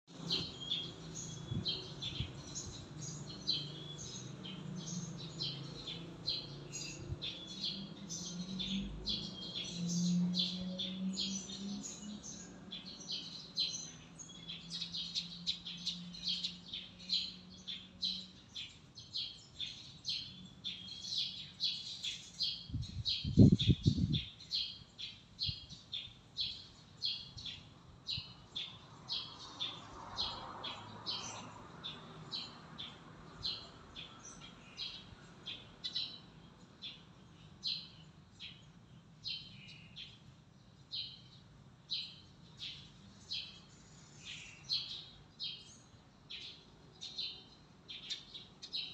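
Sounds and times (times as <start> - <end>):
bird chirping: 0.1 - 40.2, 40.8 - 48.9.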